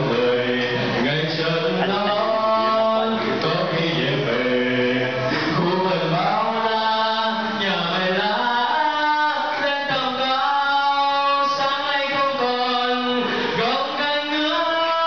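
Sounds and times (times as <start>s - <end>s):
young man singing: 0.0s - 15.0s.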